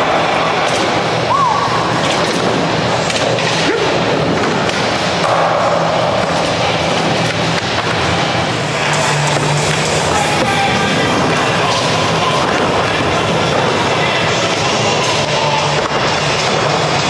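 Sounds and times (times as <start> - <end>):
skateboard wheels rolling: 0.0 - 17.0
skateboard clacks: 2.0 - 17.0.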